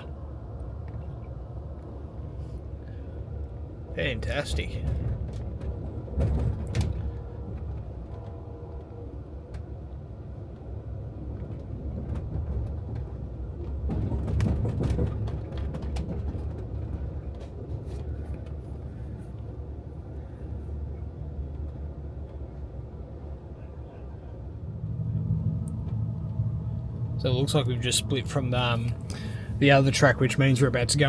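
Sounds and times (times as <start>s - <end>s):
train clicks and clatter: 0.0s - 24.7s, 27.3s - 31.0s
train wheels rumbling on rails: 0.0s - 31.0s.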